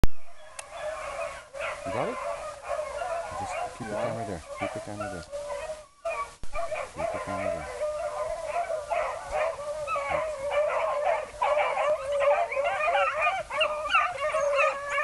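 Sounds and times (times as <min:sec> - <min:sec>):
beagles baying: 0:00.3 - 0:15.0.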